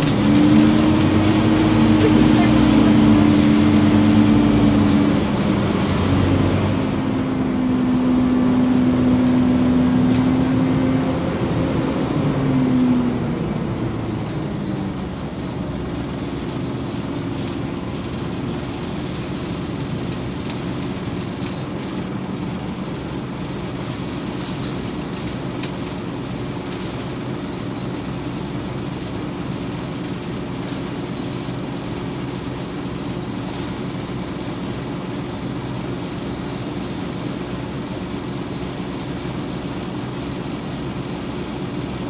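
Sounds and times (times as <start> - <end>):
bus engine drone: 0.0 - 42.0.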